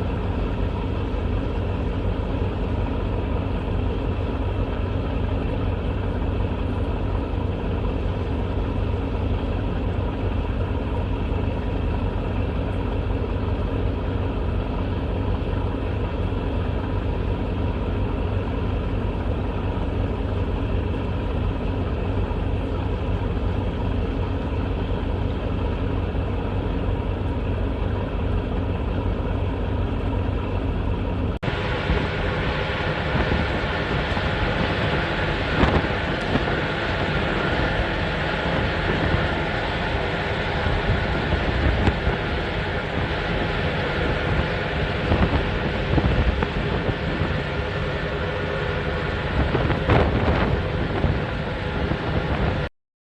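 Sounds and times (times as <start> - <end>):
low engine drone: 0.0 - 52.7.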